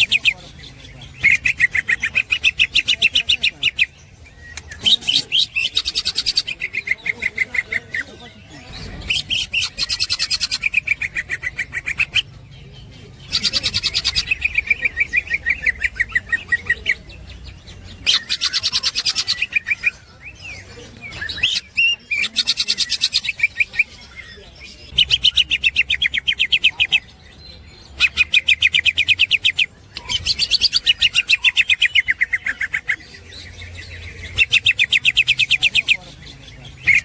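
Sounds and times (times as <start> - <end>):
bird chattering song: 0.0 - 37.0.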